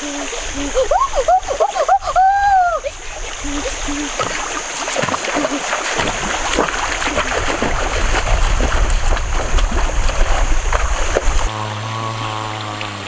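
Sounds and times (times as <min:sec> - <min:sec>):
bare feet splashing in stream: 0:00.0 - 0:13.0
rushing water: 0:00.0 - 0:13.0.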